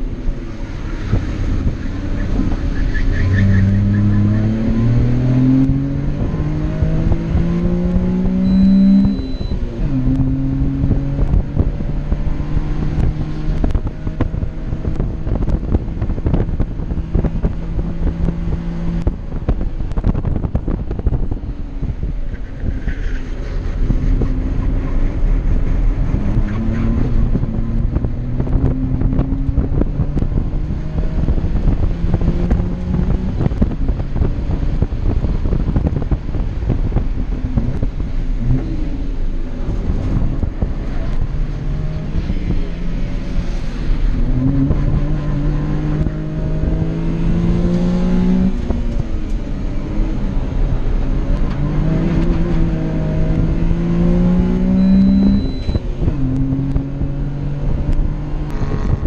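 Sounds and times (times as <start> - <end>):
car engine revving: 0.0 - 22.8, 23.5 - 59.0
road and wind noise: 0.0 - 59.0.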